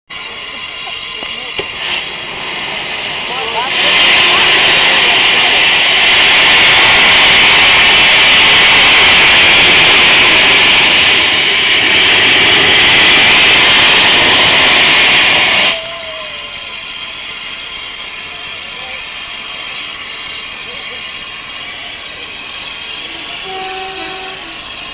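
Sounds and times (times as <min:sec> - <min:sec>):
steam locomotive hissing: 0:00.1 - 0:24.9.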